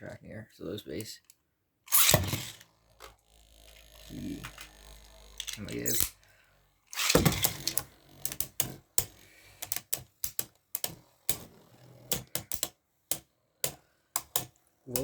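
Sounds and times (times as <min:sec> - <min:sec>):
plastic parts clicking and clacking: 0:00.9 - 0:15.0.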